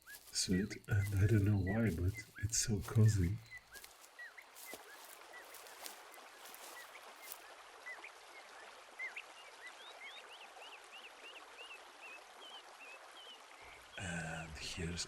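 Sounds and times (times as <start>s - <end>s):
faint flowing stream: 0.0s - 15.0s
small birds chirping: 0.0s - 15.0s.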